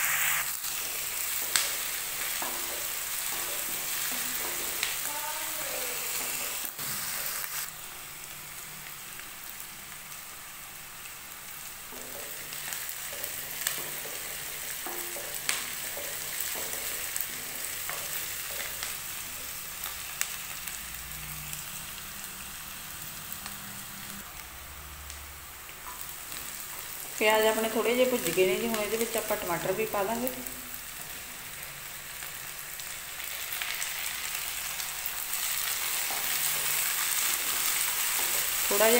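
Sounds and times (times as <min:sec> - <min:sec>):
onions sizzling in oil: 0:00.0 - 0:38.9.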